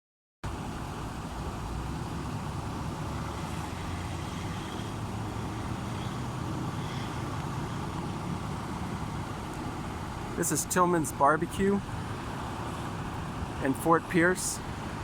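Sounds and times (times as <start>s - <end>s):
faint road noise: 0.4s - 15.0s
vehicle engine humming: 0.4s - 15.0s.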